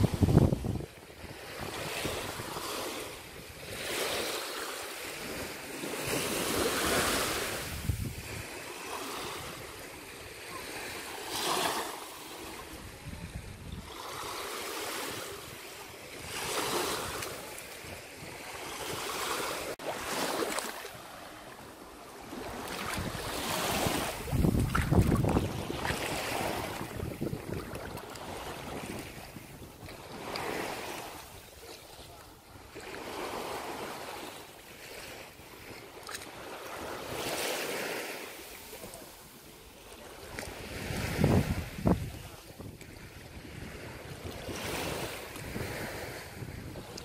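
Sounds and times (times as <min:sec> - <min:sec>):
small waves washing onto beach: 0:00.0 - 0:47.0.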